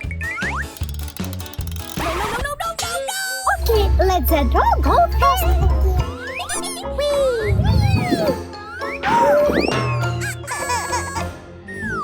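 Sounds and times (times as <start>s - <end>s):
upbeat children's music: 2.4s - 12.0s.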